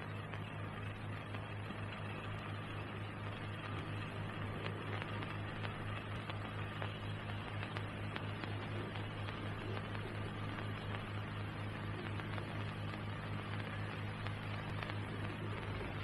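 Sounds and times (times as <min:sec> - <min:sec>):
faint clicks: 0:00.0 - 0:16.0
hiss: 0:00.0 - 0:16.0
low electrical hum: 0:00.0 - 0:16.0.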